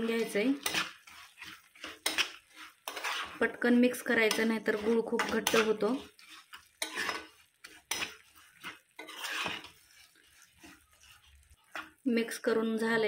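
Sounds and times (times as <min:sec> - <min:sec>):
spatula scraping and knocking on pan: 0:00.0 - 0:12.0.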